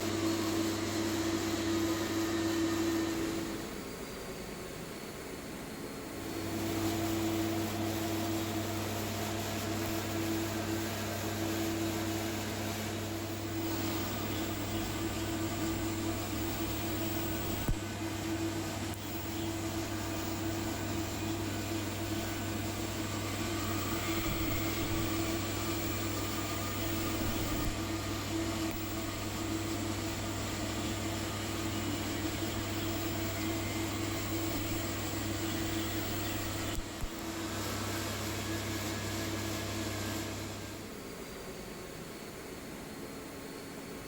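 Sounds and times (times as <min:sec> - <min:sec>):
welding equipment humming and hissing: 0:00.0 - 0:43.9.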